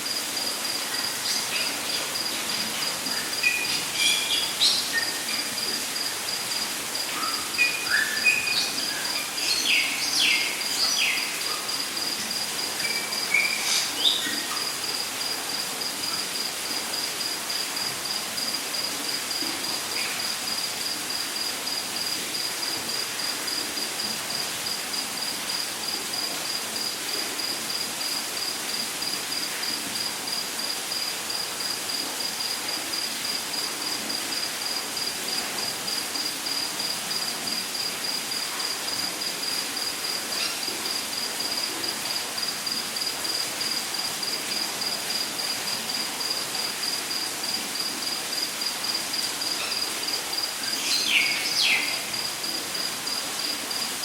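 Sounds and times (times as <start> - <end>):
background hiss: 0.0 - 54.0
insects chirping: 0.0 - 54.0.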